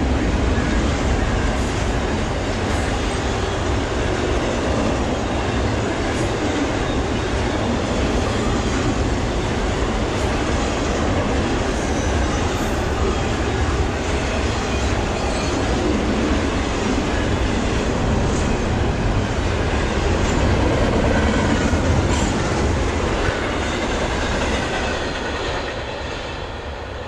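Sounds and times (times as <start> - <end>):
clickety-clack of train wheels: 0.0 - 27.0
freight train rolling past: 0.0 - 27.0.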